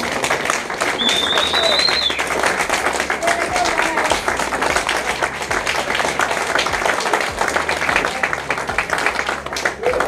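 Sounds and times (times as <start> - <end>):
background music: 0.0 - 10.0
crowd applauding: 0.0 - 10.0.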